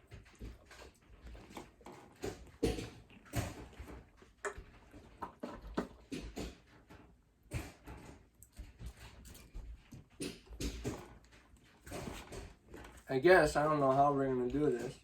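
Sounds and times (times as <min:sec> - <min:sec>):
objects handled with taps and rustles: 0:00.0 - 0:15.0.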